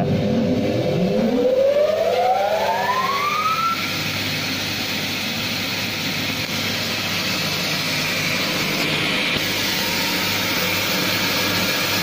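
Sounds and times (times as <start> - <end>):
band saw motor whining: 0.0 - 12.0.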